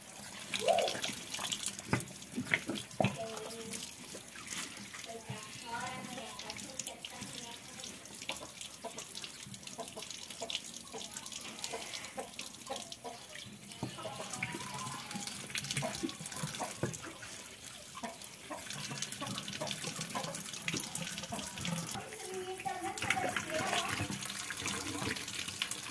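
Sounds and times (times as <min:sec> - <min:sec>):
tap water running into sink: 0:00.1 - 0:25.9.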